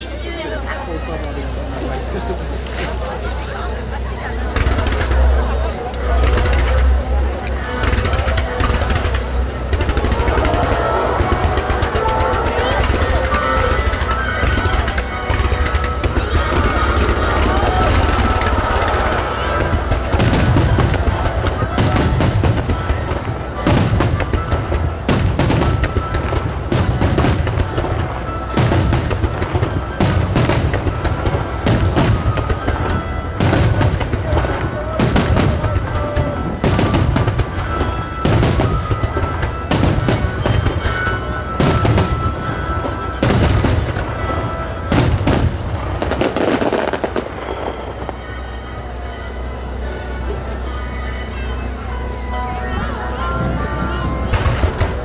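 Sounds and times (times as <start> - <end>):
fireworks booming and crackling: 0.0 - 55.0.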